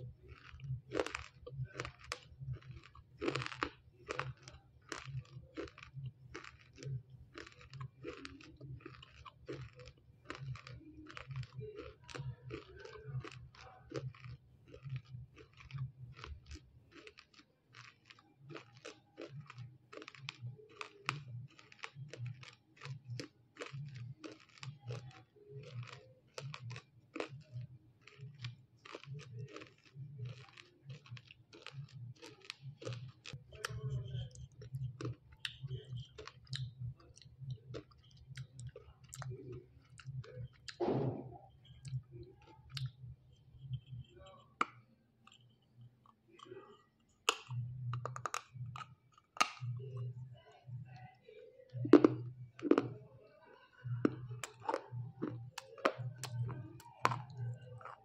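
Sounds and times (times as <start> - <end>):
chewing crunchy clay: 0.0 - 58.0.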